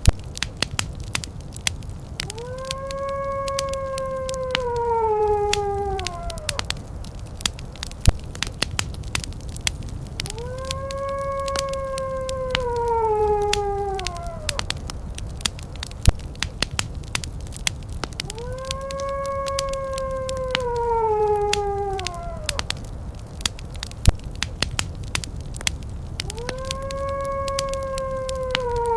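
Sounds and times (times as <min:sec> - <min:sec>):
wood fire crackling: 0:00.0 - 0:28.9
long howl: 0:00.4 - 0:28.9.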